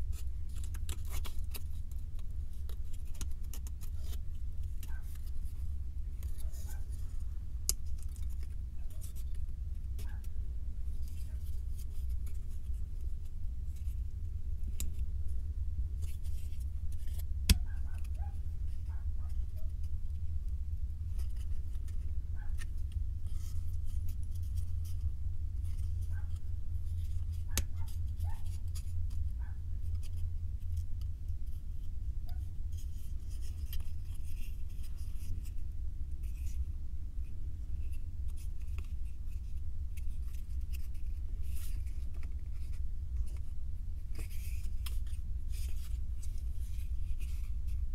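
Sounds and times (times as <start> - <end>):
soft rustling: 0.0 - 47.9
steady low hum: 0.0 - 47.9.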